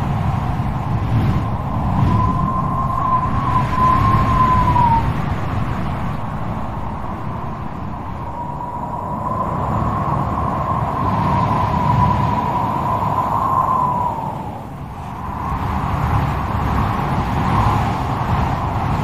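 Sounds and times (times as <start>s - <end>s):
wind howling: 0.0s - 19.0s.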